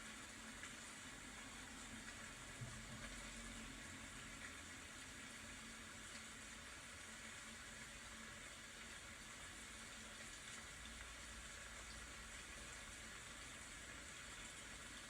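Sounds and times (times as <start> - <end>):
faint rain falling: 0.0 - 15.0.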